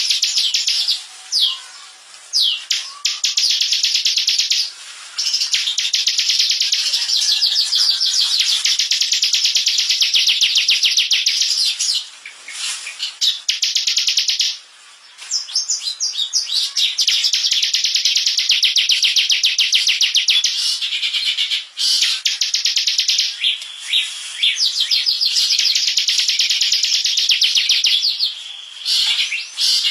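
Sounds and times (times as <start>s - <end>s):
bird singing fast trills: 2.4s - 12.1s, 13.0s - 14.6s, 15.4s - 29.9s.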